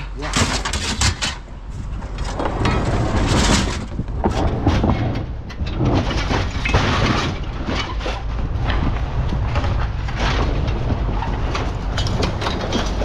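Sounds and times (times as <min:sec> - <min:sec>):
scrap metal clanking and scraping: 0:00.0 - 0:13.0
low engine rumble: 0:01.4 - 0:13.0.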